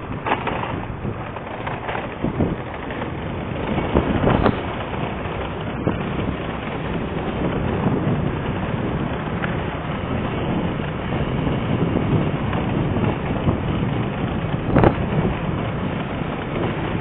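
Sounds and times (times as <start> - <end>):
vehicle running noise: 0.0 - 17.0
wind buffeting microphone: 0.0 - 17.0.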